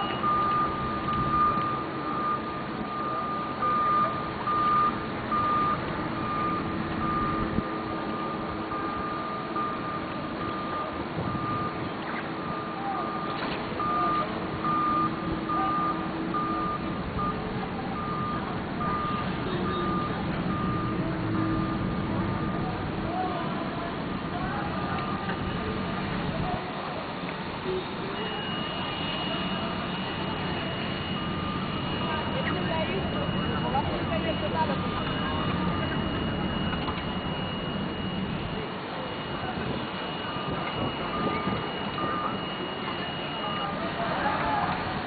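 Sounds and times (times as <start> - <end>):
warning alarm beeping: 0.0 - 45.0.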